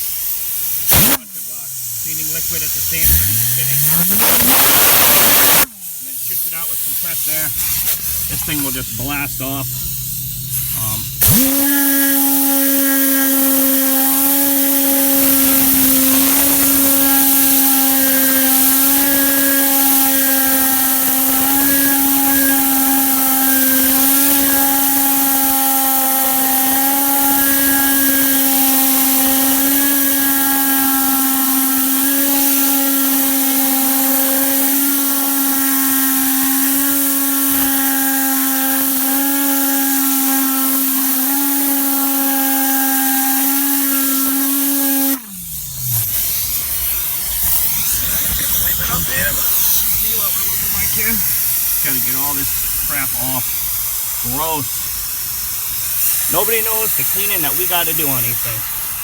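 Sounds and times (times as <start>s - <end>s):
compressed air blasting hiss: 0.0s - 59.0s
humming whine: 0.0s - 59.0s.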